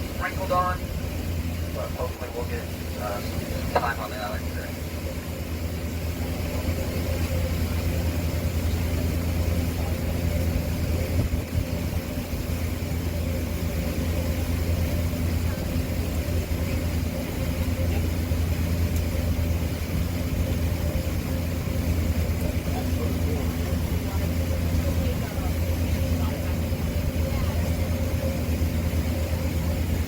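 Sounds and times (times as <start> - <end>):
boat engine drone: 0.0 - 30.0
wind and water wash: 0.0 - 30.0.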